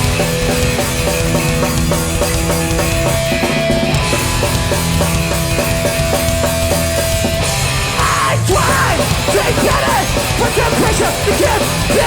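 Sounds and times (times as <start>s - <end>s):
bass guitar: 0.0s - 12.0s
distorted electric guitars: 0.0s - 12.0s
drums: 0.0s - 12.0s.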